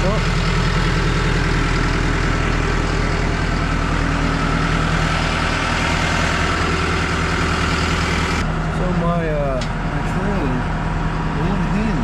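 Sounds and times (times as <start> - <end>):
bulldozer diesel engine idling: 0.0 - 12.0.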